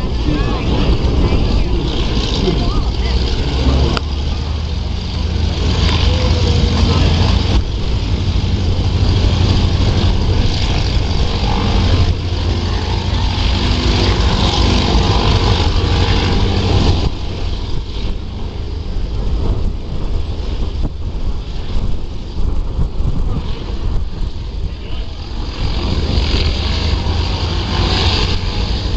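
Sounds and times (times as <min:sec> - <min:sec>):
engine running: 0:00.0 - 0:28.9
wind noise on microphone: 0:00.0 - 0:28.9.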